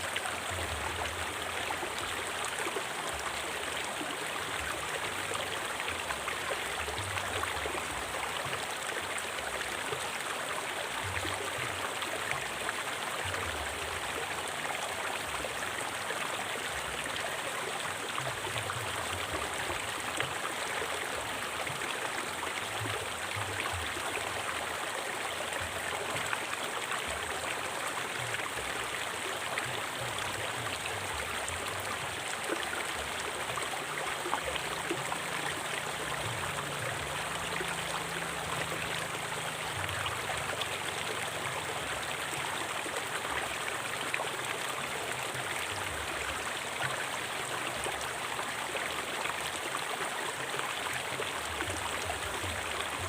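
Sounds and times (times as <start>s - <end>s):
river water rushing and gurgling: 0.0s - 53.0s.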